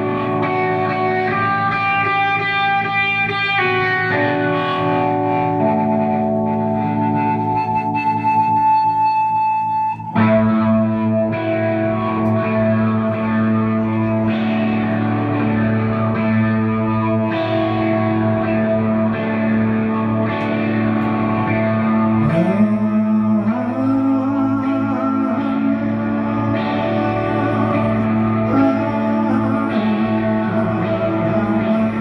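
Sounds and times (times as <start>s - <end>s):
rock guitar instrumental: 0.0s - 32.0s.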